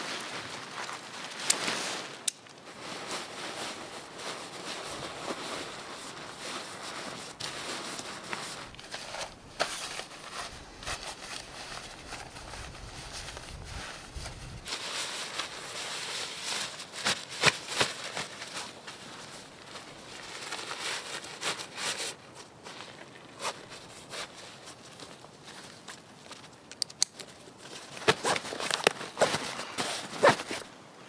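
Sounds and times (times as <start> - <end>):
nylon fabric rustling: 0.0 - 26.5, 27.5 - 30.8.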